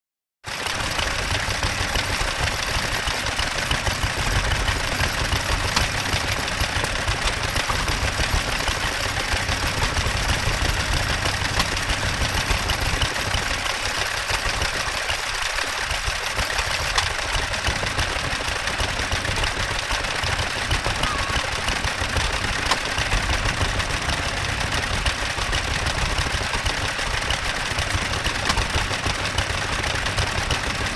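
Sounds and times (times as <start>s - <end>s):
stationary engine running: 0.5s - 30.9s.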